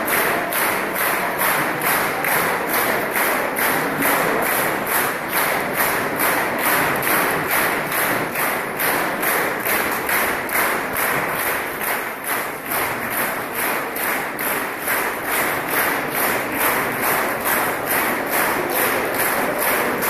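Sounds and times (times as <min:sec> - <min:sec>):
audience clapping in unison: 0:00.0 - 0:20.0.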